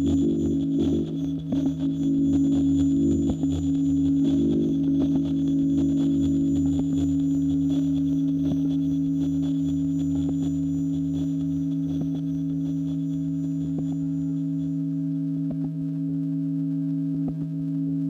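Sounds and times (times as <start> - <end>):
low feedback drone: 0.0 - 15.6.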